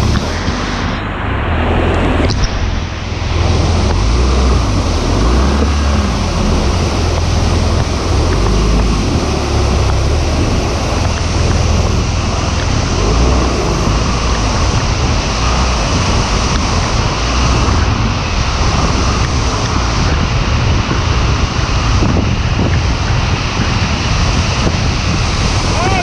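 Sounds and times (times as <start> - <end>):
motorcycle engine running: 0.0 - 1.0, 1.8 - 24.9
wind buffeting microphone: 0.0 - 26.0.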